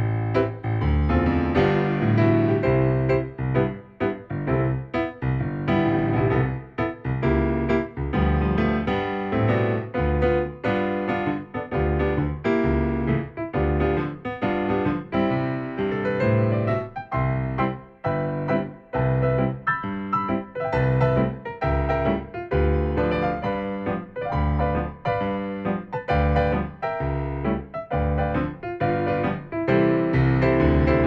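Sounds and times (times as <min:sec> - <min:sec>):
solo piano music: 0:00.0 - 0:31.0.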